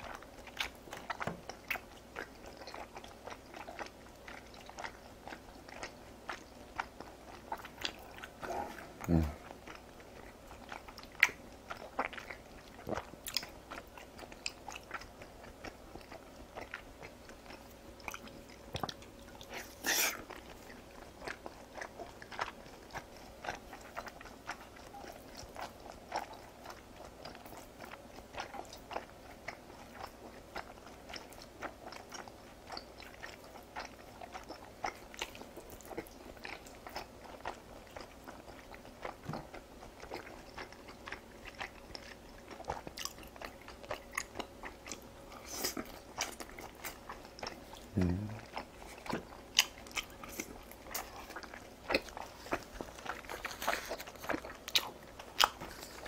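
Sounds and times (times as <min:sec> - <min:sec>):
wet chewing mouth clicks: 0:00.0 - 0:56.0.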